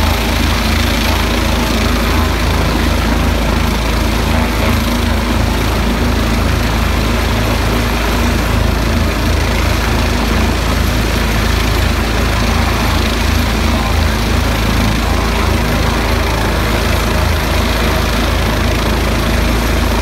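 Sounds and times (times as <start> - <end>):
helicopter turbine and rotor: 0.0 - 20.0.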